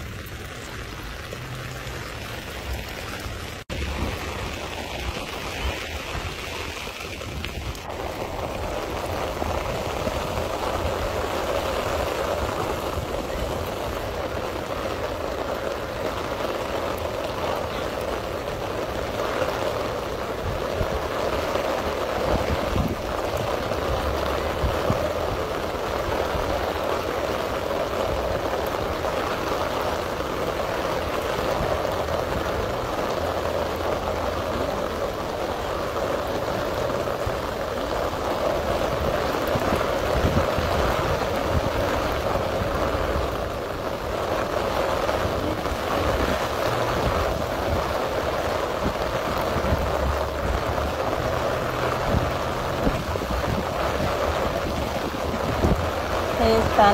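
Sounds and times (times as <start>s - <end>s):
rain and floodwater rushing: 0.0s - 56.9s.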